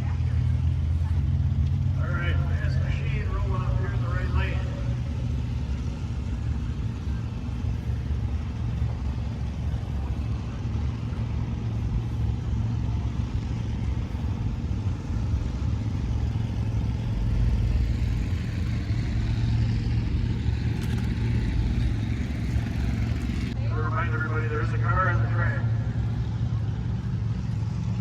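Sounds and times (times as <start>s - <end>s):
car engine running at low revs: 0.0s - 28.0s.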